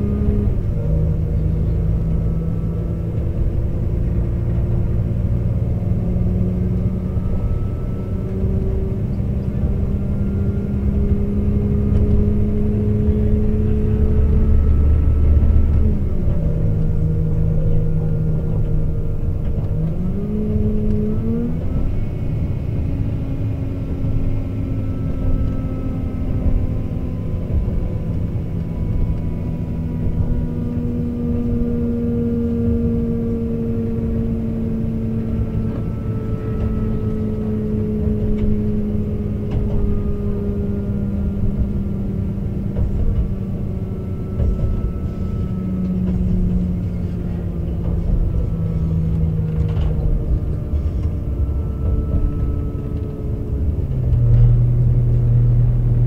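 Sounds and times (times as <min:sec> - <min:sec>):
train diesel engine pulling: 0:00.0 - 0:56.0.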